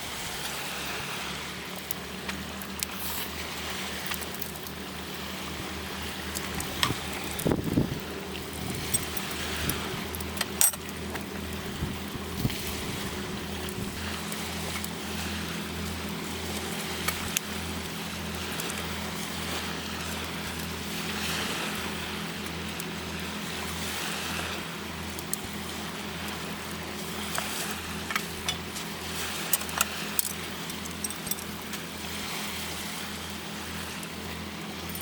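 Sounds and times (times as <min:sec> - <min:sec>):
engine running with pulsing hum: 0:00.0 - 0:35.0.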